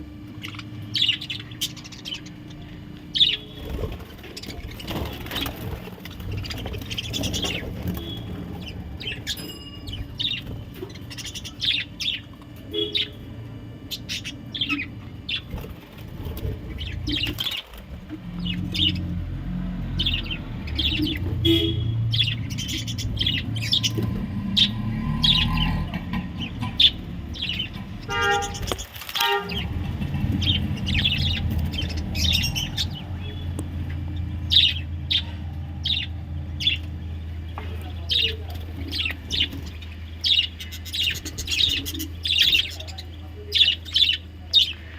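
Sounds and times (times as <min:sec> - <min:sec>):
steady low hum: 0:00.0 - 0:44.9
budgerigars chirping: 0:00.4 - 0:13.2, 0:13.9 - 0:19.2, 0:20.0 - 0:37.0, 0:37.6 - 0:44.9.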